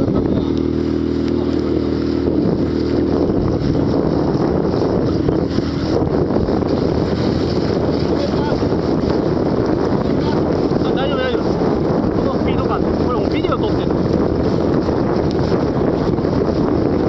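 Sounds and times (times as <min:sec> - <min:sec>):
boat engine hum: 0:00.0 - 0:17.0
rushing water: 0:00.0 - 0:17.0
wind noise on microphone: 0:00.0 - 0:17.0.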